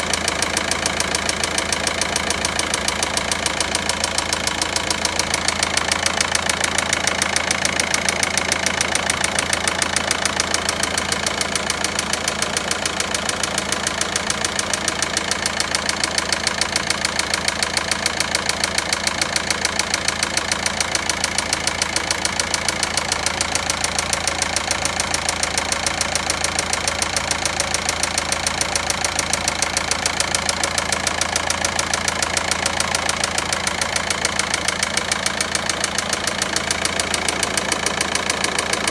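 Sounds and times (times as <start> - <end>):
diesel engine idling with knock: 0.0 - 38.9.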